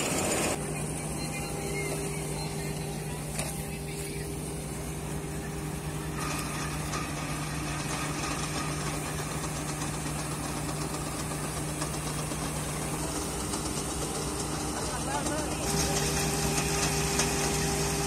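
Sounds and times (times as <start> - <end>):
combine harvester diesel engine: 0.0 - 18.0
tractor engine running: 0.0 - 18.0.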